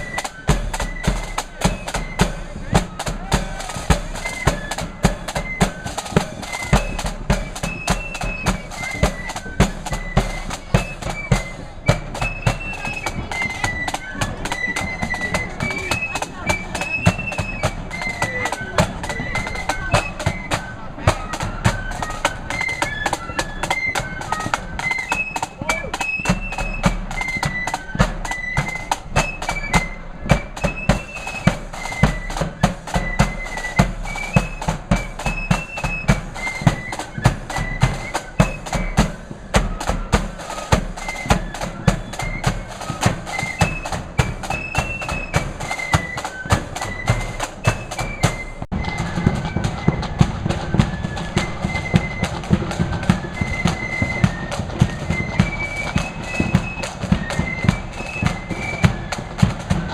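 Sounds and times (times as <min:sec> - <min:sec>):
flute melody: 0:00.0 - 0:59.9
snare and bass drums: 0:00.0 - 0:59.9.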